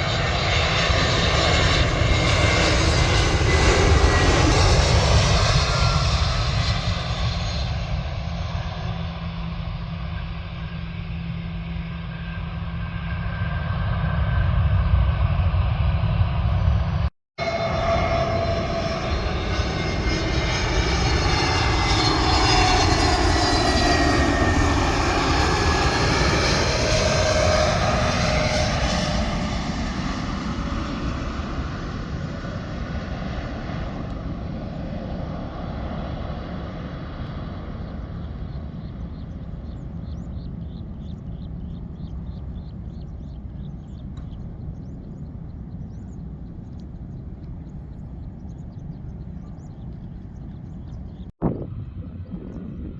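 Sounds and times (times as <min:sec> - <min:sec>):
jet airliner passing: 0:00.0 - 0:52.9.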